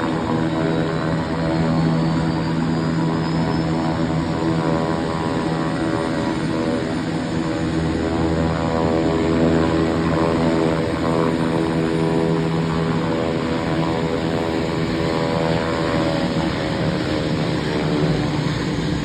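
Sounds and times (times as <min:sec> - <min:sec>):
high turbine whine: 0:00.0 - 0:19.0
turboprop engines droning: 0:00.0 - 0:19.0.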